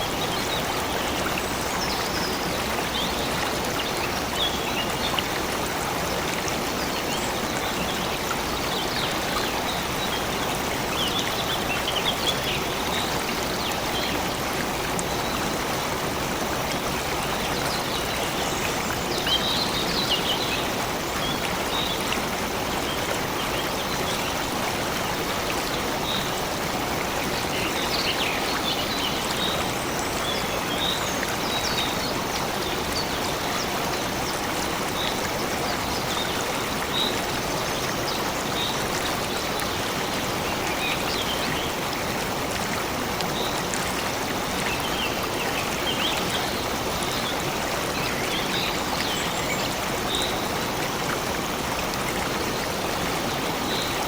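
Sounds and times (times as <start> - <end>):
stream of water running: 0.0 - 54.0.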